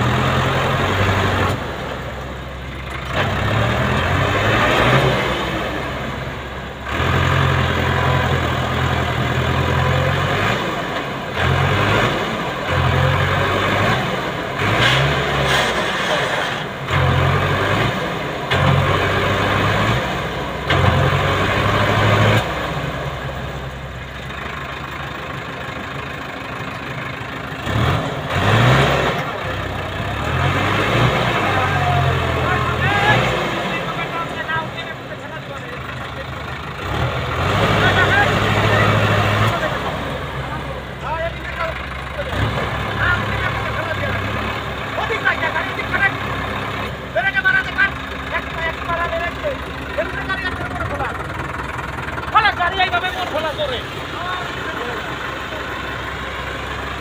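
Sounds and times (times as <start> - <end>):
tractor diesel engine labouring: 0.0 - 57.0.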